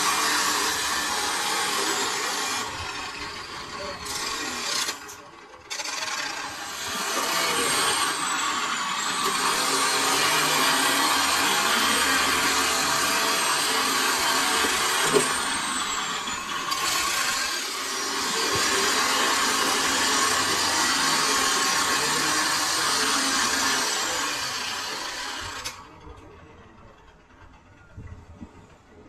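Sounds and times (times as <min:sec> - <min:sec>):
angle grinder grinding steel: 0:00.0 - 0:25.9.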